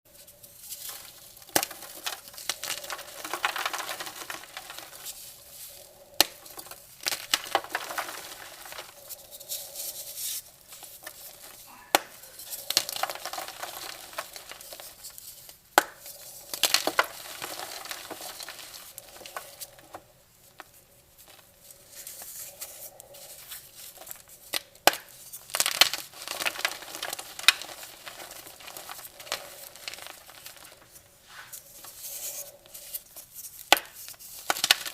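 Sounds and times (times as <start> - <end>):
chalk crumbling and crunching: 0.1 - 34.9.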